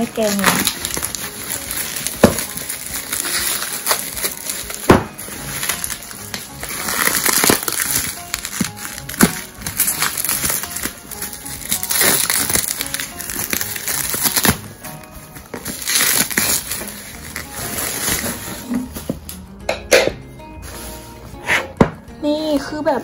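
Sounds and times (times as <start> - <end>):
bubble wrap crinkling: 0.0 - 19.5, 20.4 - 21.5
background music: 0.0 - 23.0.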